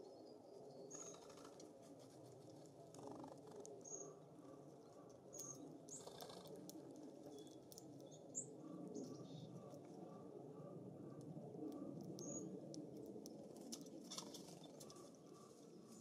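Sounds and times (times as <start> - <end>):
low steady breeze: 0.0 - 16.0
songbirds chirping: 0.0 - 16.0.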